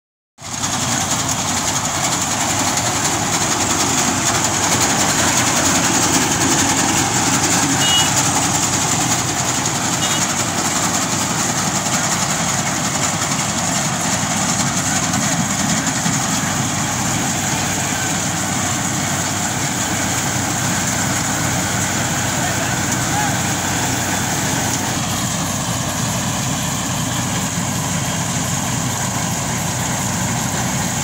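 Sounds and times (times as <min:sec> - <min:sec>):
combine harvester running: 0:00.4 - 0:31.0.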